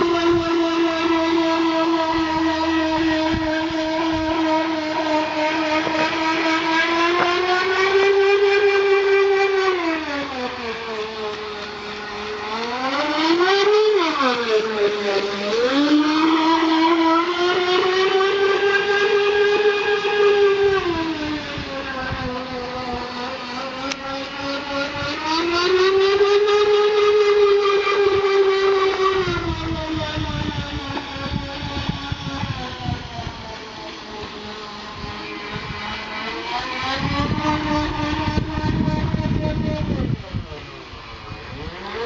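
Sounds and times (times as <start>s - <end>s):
model boat motor whining: 0.0s - 42.0s.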